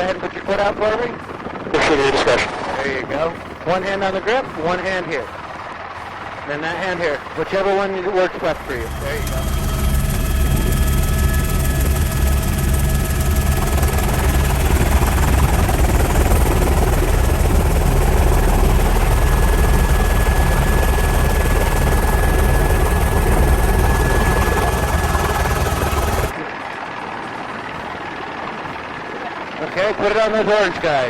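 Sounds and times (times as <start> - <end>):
faint steady whines: 0.0 - 31.0
helicopter rotor and engine: 0.0 - 31.0.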